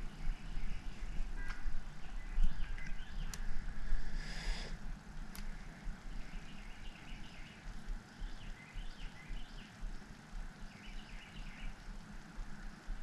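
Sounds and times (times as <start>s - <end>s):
small bird chirping: 0.0s - 3.6s, 5.5s - 12.9s
low uneven rumble: 0.0s - 13.0s.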